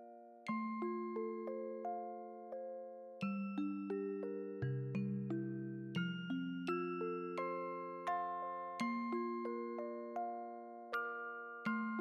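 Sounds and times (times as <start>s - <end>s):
gentle melody of struck notes: 0.0s - 12.0s.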